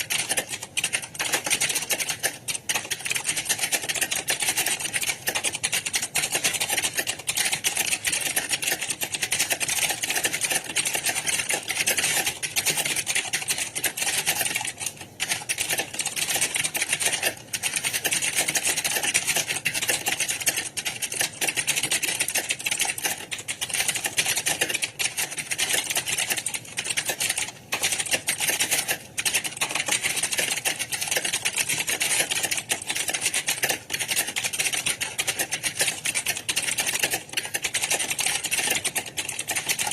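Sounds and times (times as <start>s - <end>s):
keyboards typing clatter: 0.0s - 39.9s.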